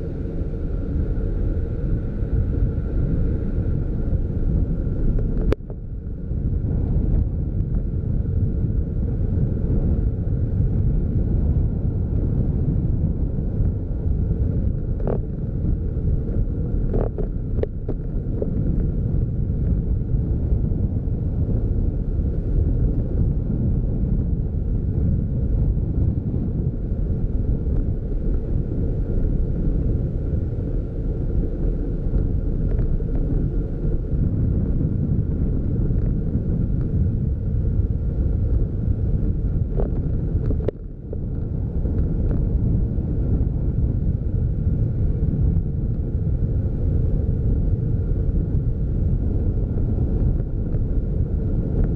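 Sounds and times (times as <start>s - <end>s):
car driving rumble: 0.0s - 51.9s
wind buffeting microphone: 0.0s - 51.9s.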